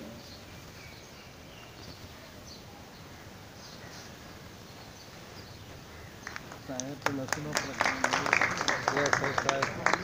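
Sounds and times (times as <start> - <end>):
faint background noise: 0.0 - 10.0.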